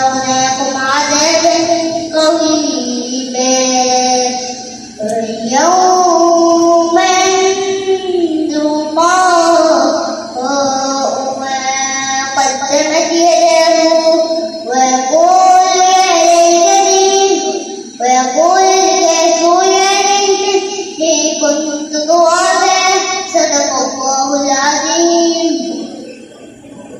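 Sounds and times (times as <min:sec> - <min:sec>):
boy chanting into a microphone: 0:00.0 - 0:26.9.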